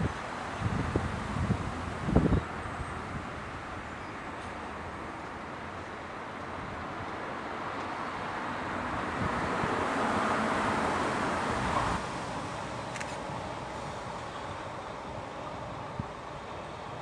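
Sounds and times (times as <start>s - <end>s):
lorry diesel engine: 0.0s - 17.0s
tyres on wet road: 0.0s - 17.0s.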